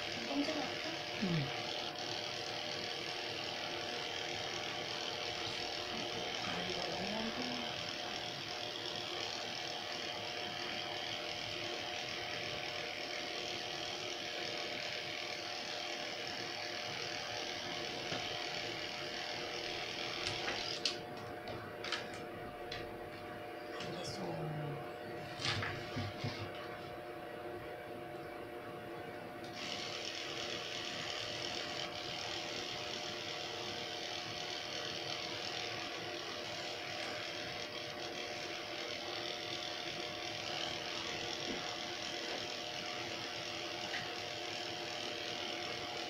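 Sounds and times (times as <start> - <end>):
electric clippers buzzing: 0.0 - 28.2, 28.9 - 46.0.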